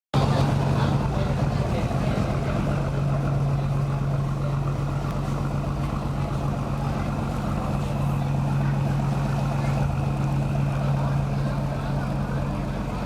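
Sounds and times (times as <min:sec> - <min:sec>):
boat engine droning: 0:00.2 - 0:13.0.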